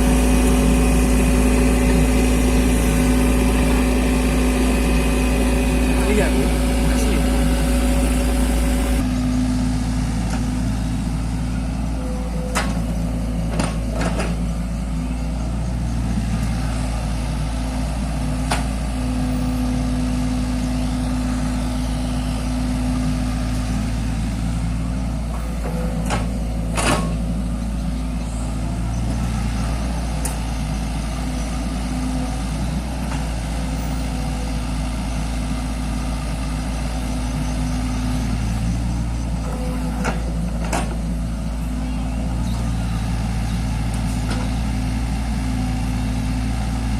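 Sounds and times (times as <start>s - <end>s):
excavator engine humming: 0.0s - 46.9s.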